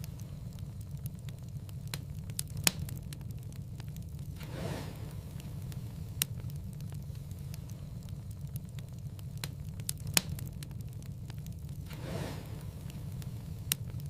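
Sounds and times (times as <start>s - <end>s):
loud fire pops: 0.0s - 14.0s
wood fire crackling: 0.0s - 14.0s.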